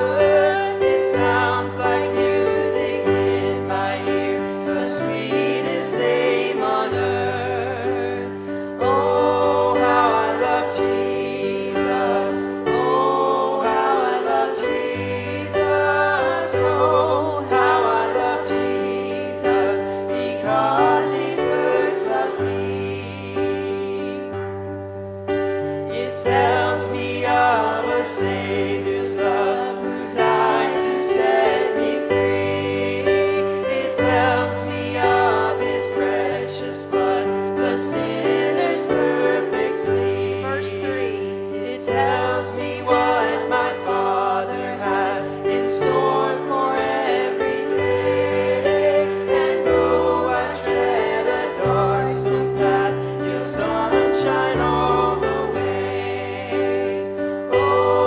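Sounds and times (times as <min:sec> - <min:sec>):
woman and man singing: 0:00.0 - 0:24.4, 0:25.9 - 0:58.0.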